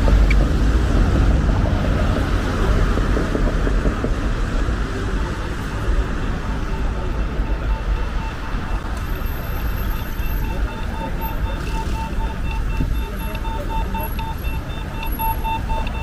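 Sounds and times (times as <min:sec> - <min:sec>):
general urban noise: 0:00.0 - 0:16.0
road traffic rumble: 0:00.0 - 0:16.0.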